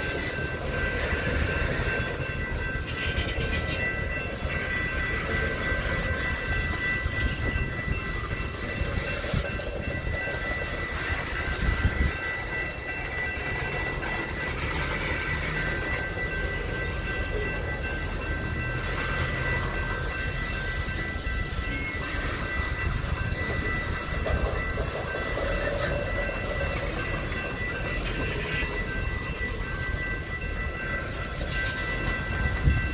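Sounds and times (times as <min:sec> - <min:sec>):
train rumbling past: 0:00.0 - 0:32.9.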